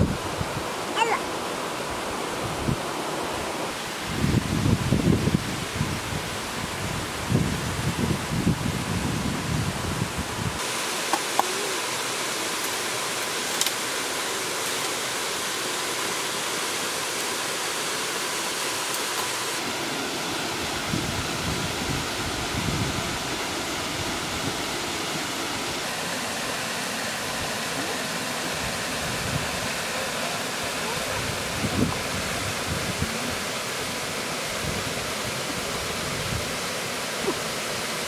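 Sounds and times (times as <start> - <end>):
waterfall rushing over rocks: 0.0 - 38.0.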